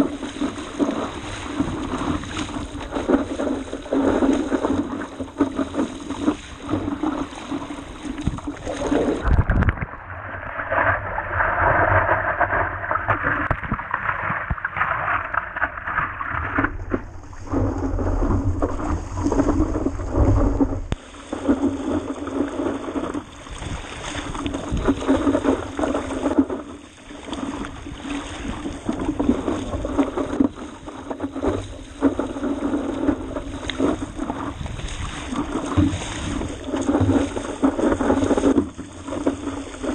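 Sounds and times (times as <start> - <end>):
wind buffeting microphone: 0.0 - 10.0, 17.1 - 26.8, 27.4 - 39.9
water splashing against board: 0.0 - 39.9.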